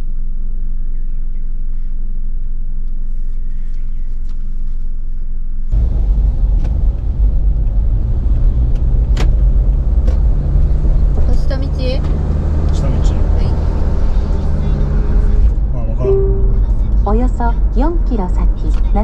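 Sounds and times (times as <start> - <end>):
car engine and road rumble: 1.4 - 19.0.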